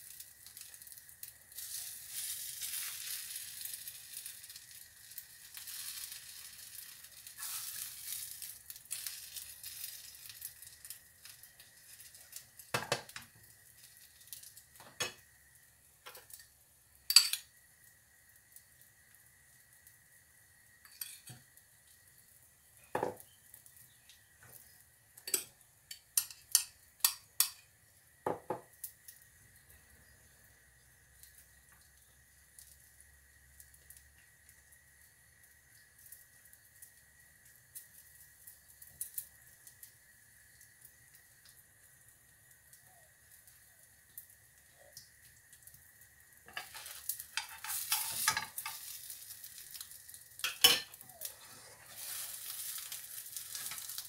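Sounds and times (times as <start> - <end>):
omelette sizzling in a frying pan: 0.0 - 54.0.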